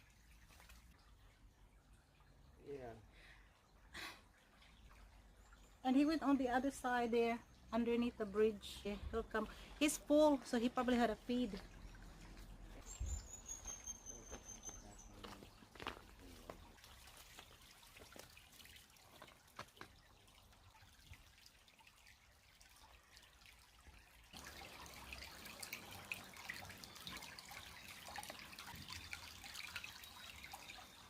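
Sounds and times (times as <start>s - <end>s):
creek water trickling and dripping: 0.0s - 31.0s.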